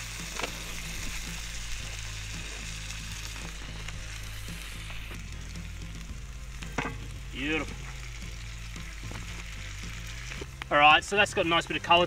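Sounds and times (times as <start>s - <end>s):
background music: 0.0s - 12.0s
sizzling in hot oil: 0.0s - 12.0s.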